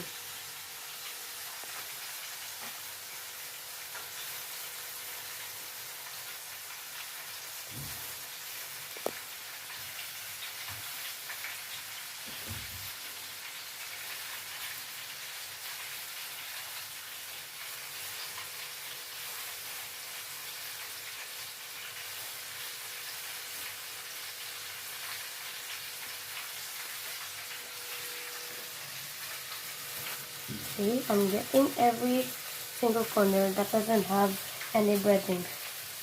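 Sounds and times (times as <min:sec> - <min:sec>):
chicken deep-frying in oil: 0:00.0 - 0:36.0.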